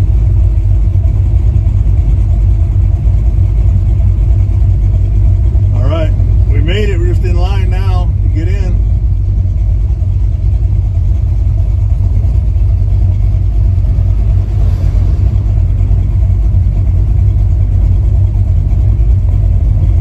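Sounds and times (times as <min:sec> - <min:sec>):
truck engine low rumble: 0:00.0 - 0:20.0.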